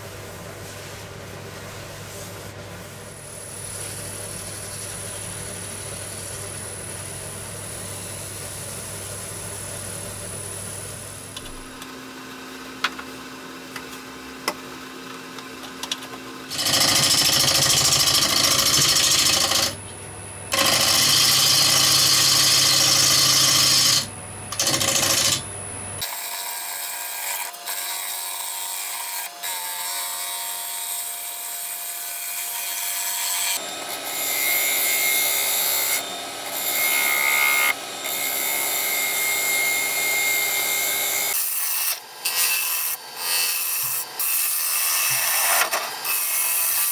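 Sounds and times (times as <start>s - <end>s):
low steady lathe hum: 0.0s - 31.6s, 32.8s - 41.4s.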